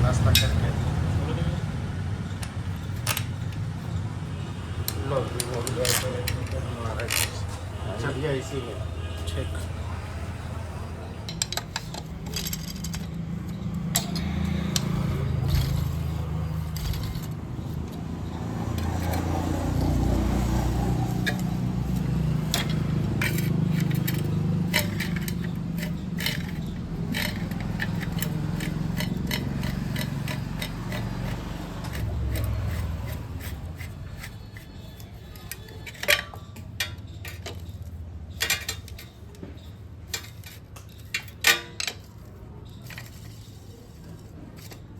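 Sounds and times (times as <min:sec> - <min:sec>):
metal tools clinking and scraping: 0:00.1 - 0:09.7, 0:11.1 - 0:44.9.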